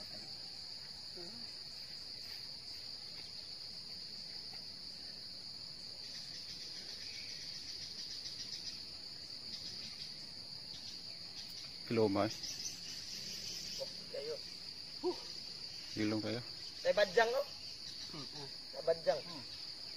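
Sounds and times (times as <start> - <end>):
high-pitched insect buzz: 0.0 - 19.9
pulsing insect trill: 0.0 - 19.9.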